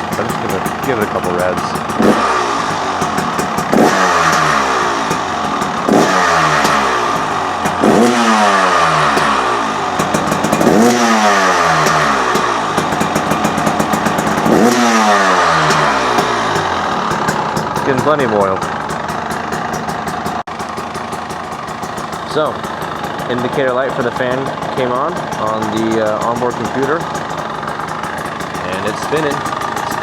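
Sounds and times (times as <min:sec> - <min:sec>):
two-stroke engine revving: 0:00.0 - 0:30.0.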